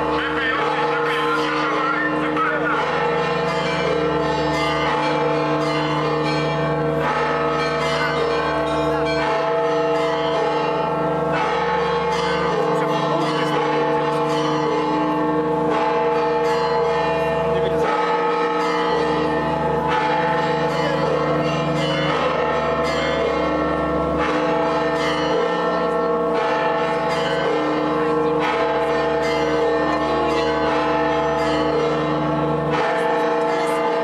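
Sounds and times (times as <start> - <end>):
church bells pealing: 0.0 - 34.0.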